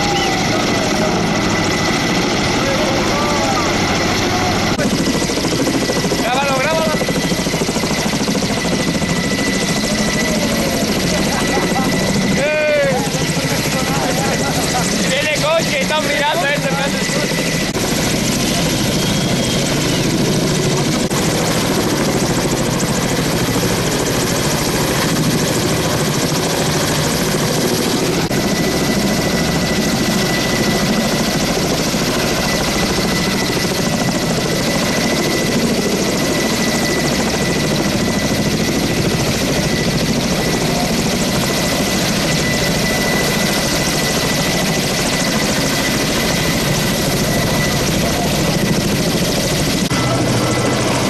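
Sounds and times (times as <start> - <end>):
helicopter rotor and engine: 0.0 - 51.0.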